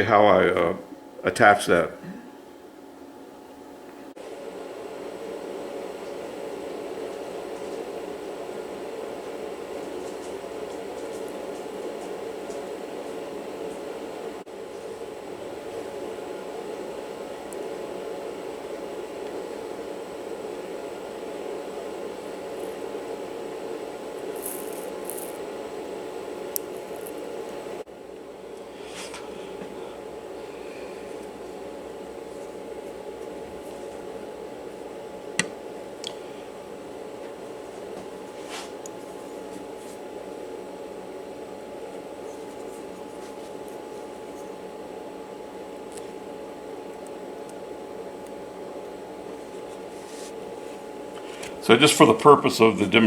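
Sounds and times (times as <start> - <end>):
low background hum: 0.0 - 53.0
steady whirring fan: 0.0 - 53.0.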